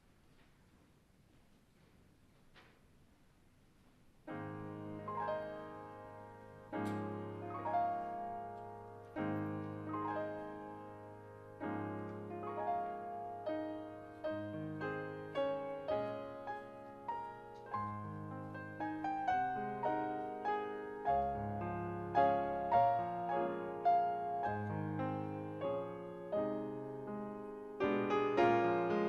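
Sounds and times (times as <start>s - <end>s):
slow piano music: 4.2s - 29.0s.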